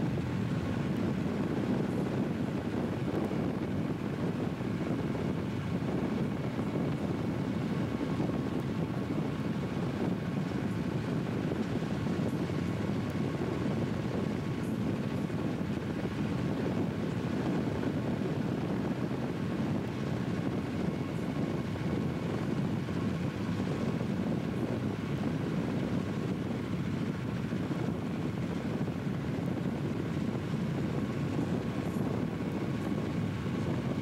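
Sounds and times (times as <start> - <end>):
diesel locomotive rumble: 0.0 - 34.0
road and wind noise: 0.0 - 34.0.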